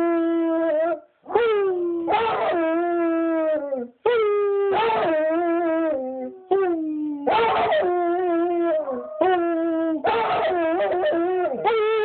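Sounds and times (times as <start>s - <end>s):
dog howling: 0.0s - 12.0s.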